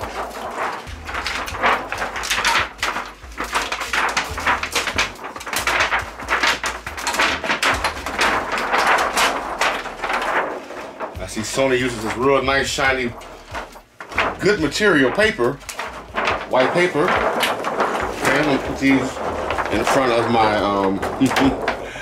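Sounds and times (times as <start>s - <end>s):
plastic sheet crinkling and crackling: 0.0s - 22.0s.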